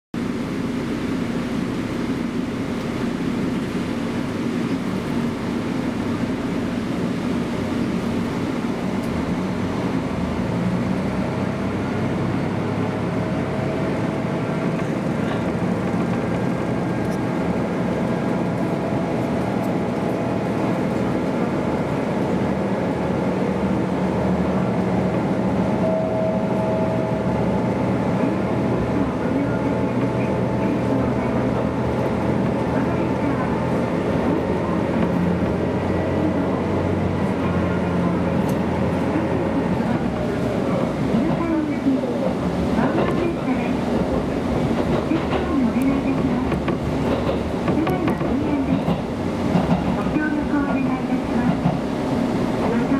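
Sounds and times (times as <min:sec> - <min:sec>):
wheels rumbling on rail: 0:00.1 - 0:52.9
railcar diesel engine droning: 0:00.2 - 0:52.9.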